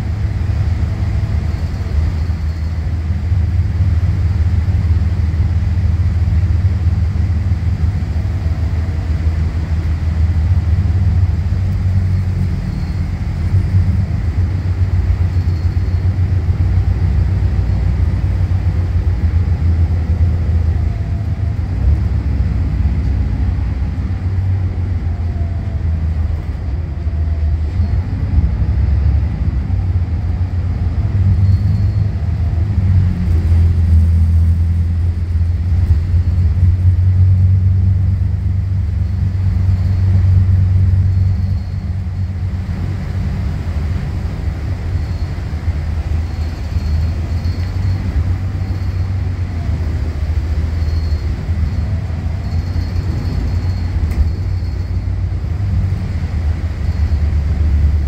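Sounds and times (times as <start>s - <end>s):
bus diesel engine droning: 0.0s - 58.0s
road noise: 0.0s - 58.0s.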